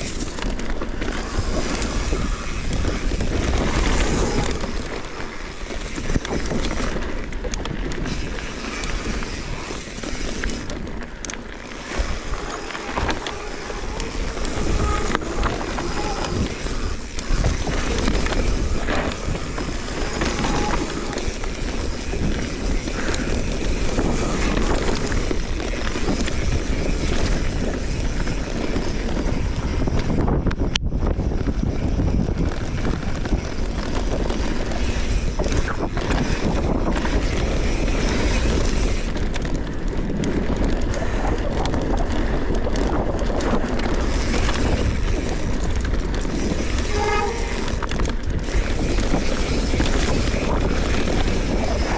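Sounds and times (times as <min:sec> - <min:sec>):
bike rattle and tyre noise: 0:00.0 - 0:51.9
wind rush on microphone: 0:00.0 - 0:51.9.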